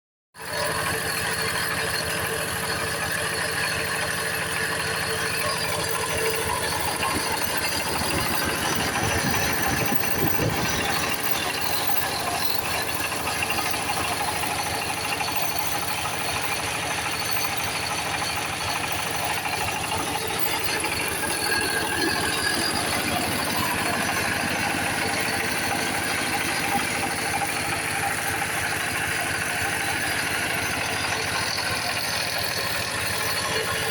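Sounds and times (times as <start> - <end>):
engine running steadily: 0.4 - 33.9.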